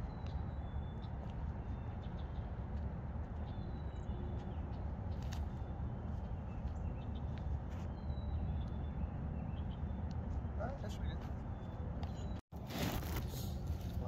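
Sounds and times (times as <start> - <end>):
birds whistling and chirping: 0.0 - 2.6, 3.4 - 12.4.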